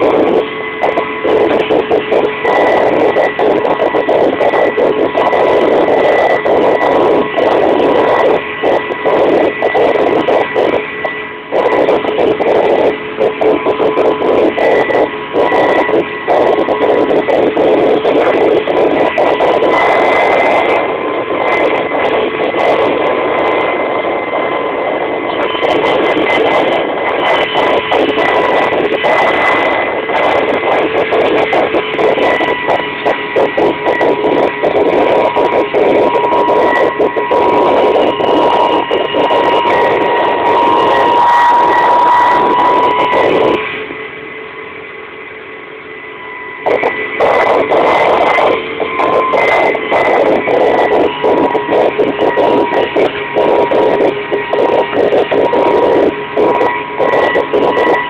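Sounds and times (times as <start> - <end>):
helicopter engines and rotors: 0.0 - 58.0
high whine: 0.0 - 58.0.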